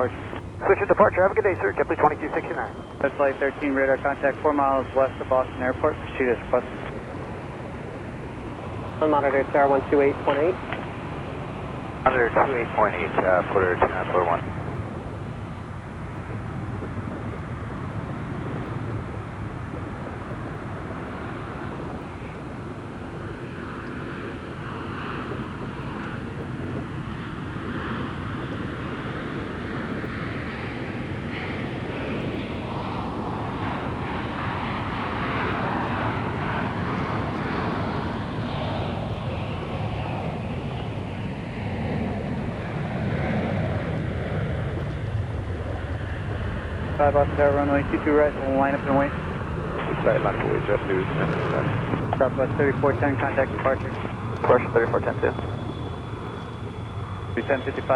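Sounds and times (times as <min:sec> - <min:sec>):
jet engines roaring at takeoff: 0:00.0 - 0:57.9.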